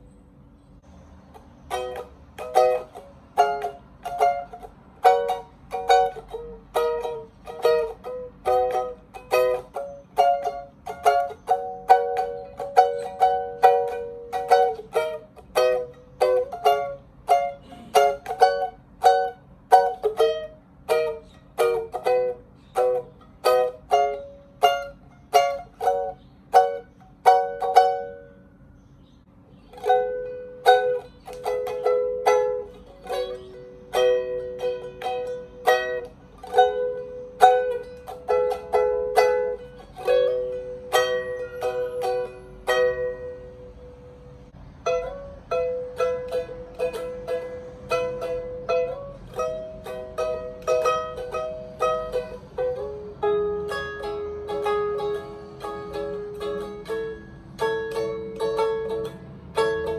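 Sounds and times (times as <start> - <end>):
ukulele plucked chords: 1.3 - 28.6, 29.4 - 59.9.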